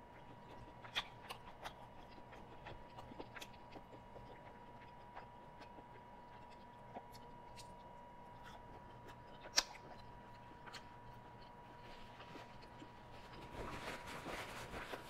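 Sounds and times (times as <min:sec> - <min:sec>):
person chewing: 0:00.1 - 0:15.0.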